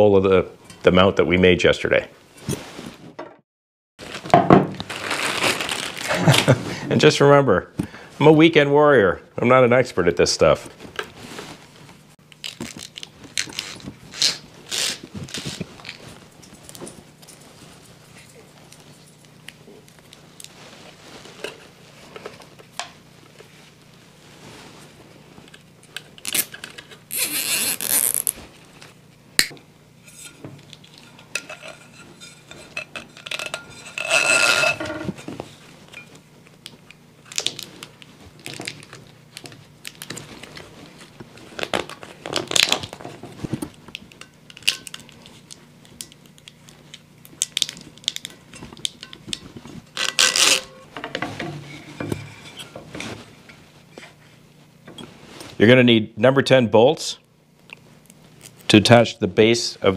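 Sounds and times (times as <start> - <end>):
low steady hum: 4.0 - 59.9.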